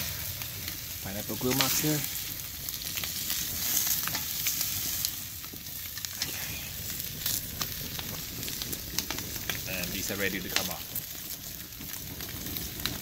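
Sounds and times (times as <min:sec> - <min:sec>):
fat popping and crackling: 0:00.0 - 0:13.0
steaks sizzling on a grill: 0:00.0 - 0:13.0.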